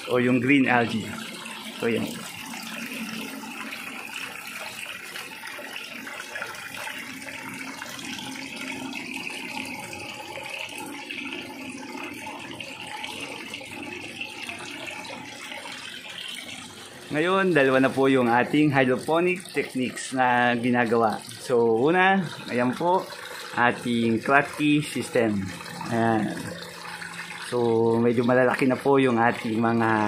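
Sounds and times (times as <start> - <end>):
trickle of running water: 0.0 - 30.0.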